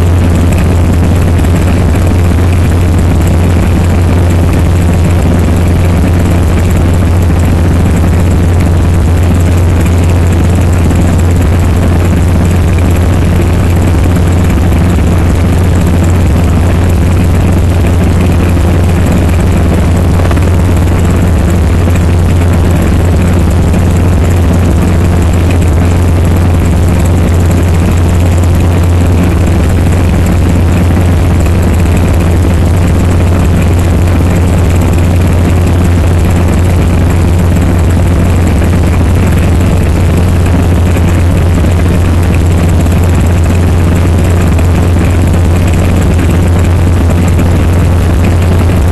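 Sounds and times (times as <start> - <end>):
helicopter engine and rotor drone: 0.0 - 48.9.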